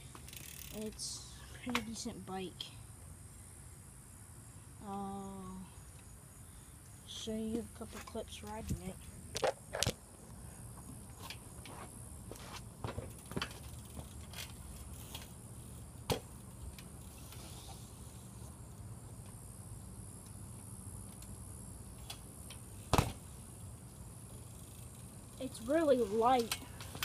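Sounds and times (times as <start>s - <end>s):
bike rolling rumble: 0.0s - 2.7s, 7.1s - 27.0s.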